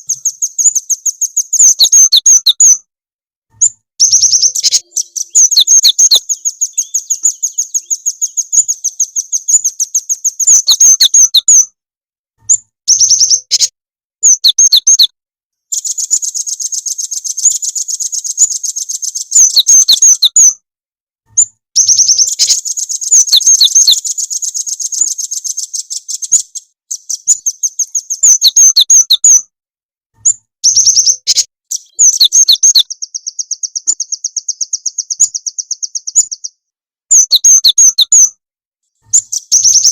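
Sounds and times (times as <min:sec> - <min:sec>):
songbird trilled song: 0:00.0 - 0:02.9, 0:03.5 - 0:11.7, 0:12.4 - 0:15.1, 0:15.7 - 0:20.6, 0:21.3 - 0:29.5, 0:30.2 - 0:39.9.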